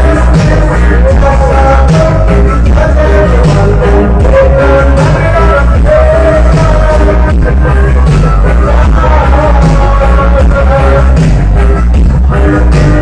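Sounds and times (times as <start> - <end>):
loud reggae with sung vocals: 0.0 - 13.0.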